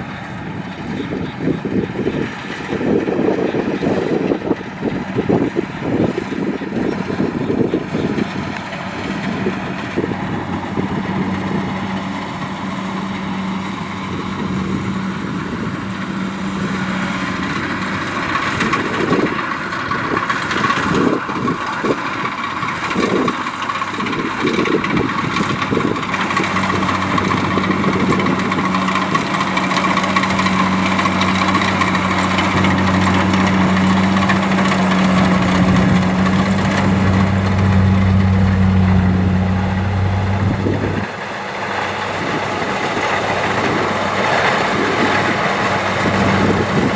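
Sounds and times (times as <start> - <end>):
combine harvester engine hum: 0.0 - 46.9.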